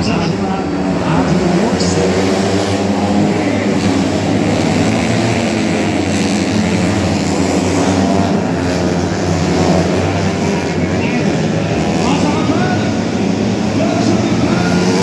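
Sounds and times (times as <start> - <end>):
motorcycle engines running hard: 0.0 - 15.0.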